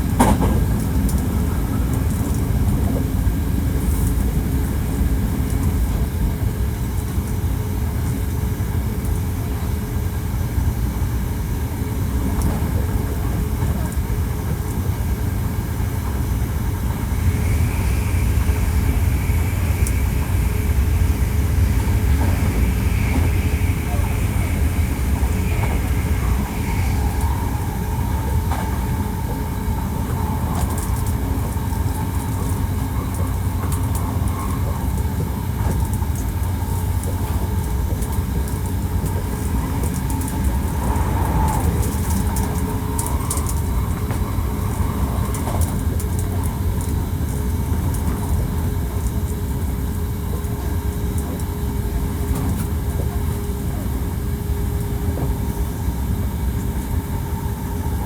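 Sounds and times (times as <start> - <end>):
wheels rumbling on rail: 0.0 - 58.0
train motor whine: 10.8 - 58.0.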